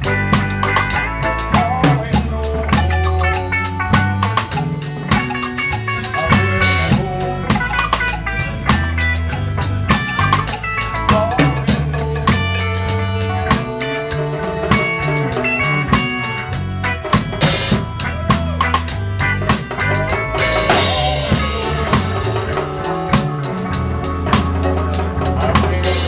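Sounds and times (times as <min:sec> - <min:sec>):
drum kit: 0:00.0 - 0:26.0
live reggae band playing: 0:00.0 - 0:26.0.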